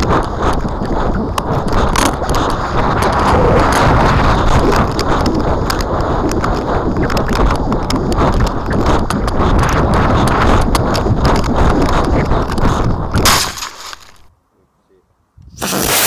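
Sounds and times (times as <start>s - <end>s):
wind buffeting microphone: 0.0s - 13.6s
sharp clicks and knocks: 0.0s - 13.8s.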